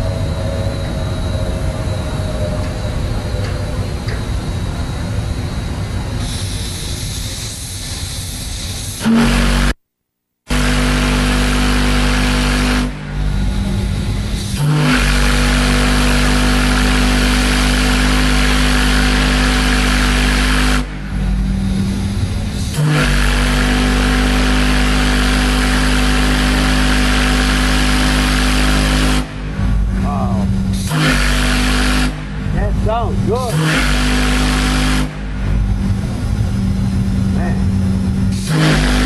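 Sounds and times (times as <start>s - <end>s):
steam hissing: 0.0s - 9.7s, 10.5s - 39.0s
deep steam whistle: 6.2s - 9.7s, 10.5s - 39.0s.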